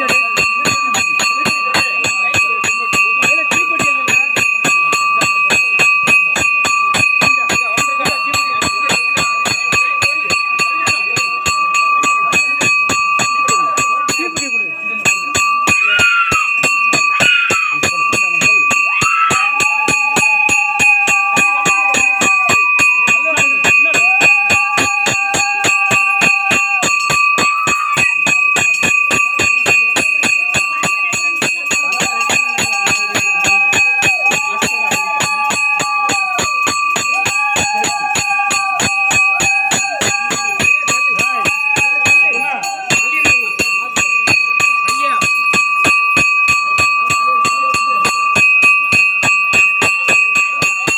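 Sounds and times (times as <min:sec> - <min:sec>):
bells ringing: 0:00.0 - 0:50.9
steady beat: 0:00.0 - 0:50.9.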